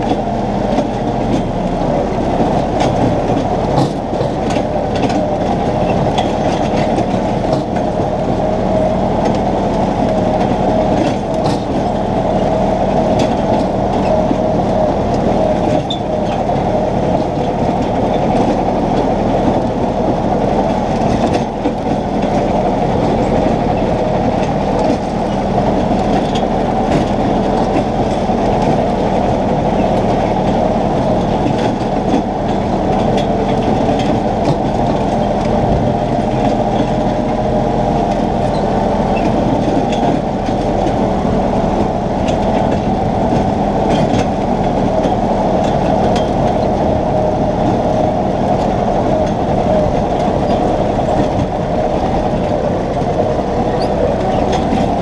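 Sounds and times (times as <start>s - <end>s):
tractor mower droning: 0.0s - 55.0s.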